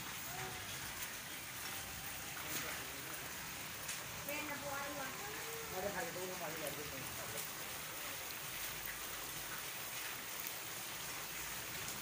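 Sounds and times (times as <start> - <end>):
heavy rain on standing water: 0.0 - 12.0.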